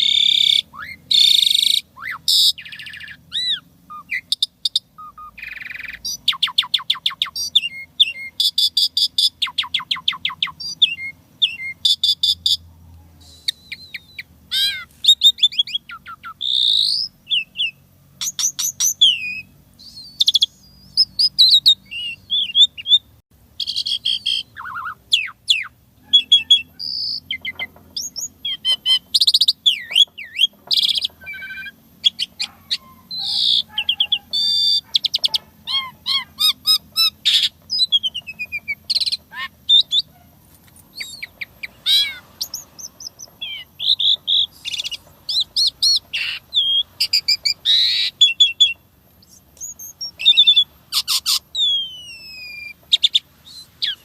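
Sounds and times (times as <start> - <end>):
starling singing varied song: 0.0 - 54.0.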